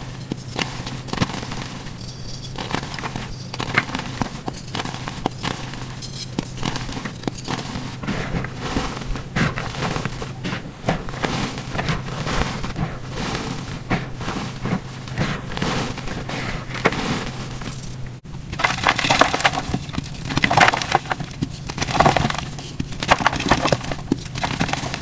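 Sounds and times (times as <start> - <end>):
chalk crackling and crunching: 0.0 - 25.0.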